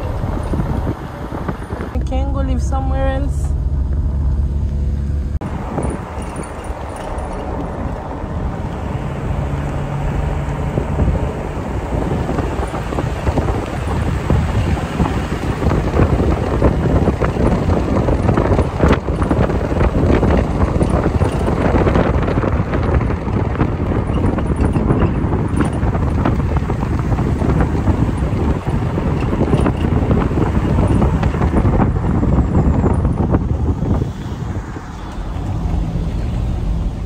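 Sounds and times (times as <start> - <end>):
road noise: 0.0 - 37.0
wind buffeting microphone: 0.0 - 37.0.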